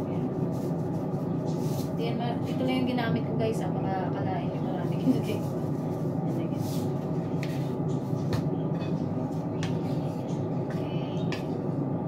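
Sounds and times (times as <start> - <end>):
low kitchen rumble: 0.0 - 12.0.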